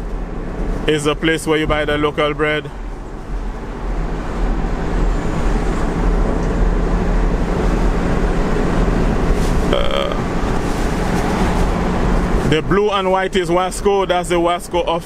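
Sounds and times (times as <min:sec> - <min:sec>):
car road noise rumble: 0:00.0 - 0:15.0.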